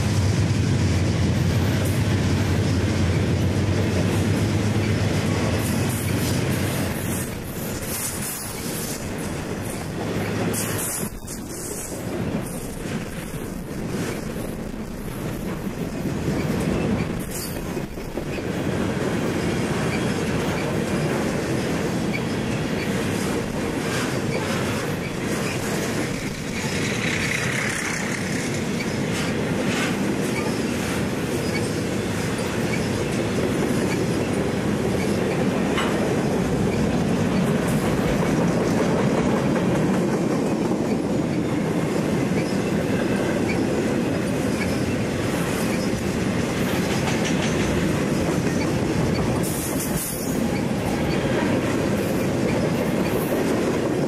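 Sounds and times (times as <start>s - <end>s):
steel wheels rumbling on rail: 0.0s - 54.0s
wheels clacking over rail joints: 3.1s - 54.0s.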